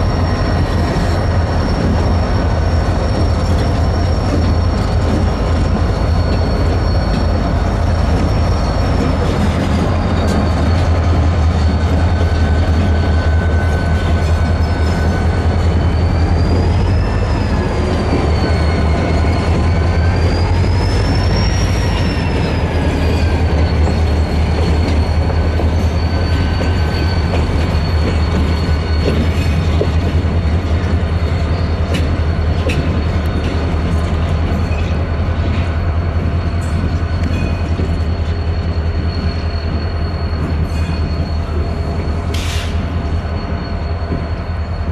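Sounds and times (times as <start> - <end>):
freight train rumbling on rails: 0.0 - 44.9
high wheel squeal: 0.0 - 44.9.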